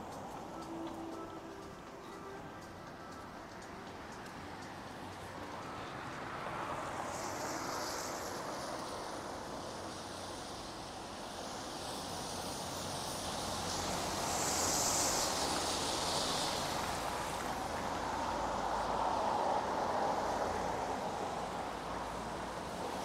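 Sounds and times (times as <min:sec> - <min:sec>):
steady rain on street: 0:00.0 - 0:23.0
tyres hissing on wet road: 0:00.0 - 0:23.0.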